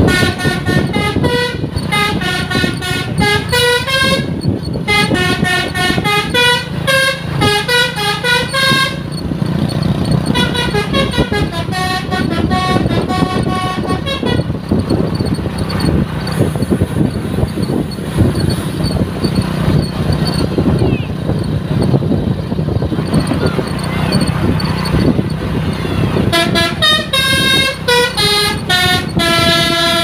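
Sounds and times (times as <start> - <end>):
bus musical horn: 0.0 - 30.0
traffic rumble: 0.0 - 30.0.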